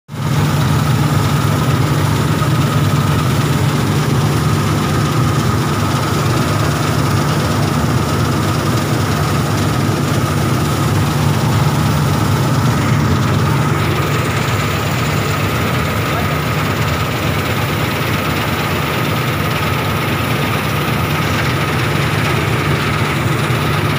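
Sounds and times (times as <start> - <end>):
combine harvester droning: 0.1 - 23.9
thin steady whine: 0.2 - 23.9.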